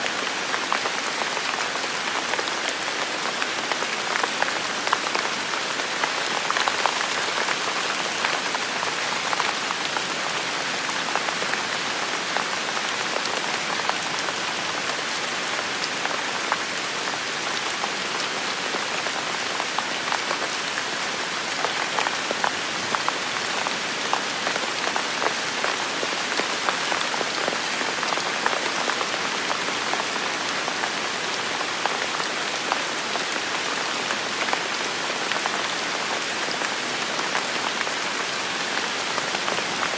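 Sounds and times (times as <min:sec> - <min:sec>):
heavy rain in a forest: 0:00.0 - 0:39.9.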